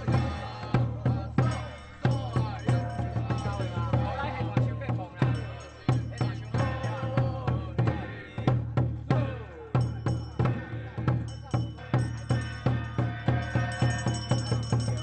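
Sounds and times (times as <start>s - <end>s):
drums and percussion beat: 0.0s - 15.0s.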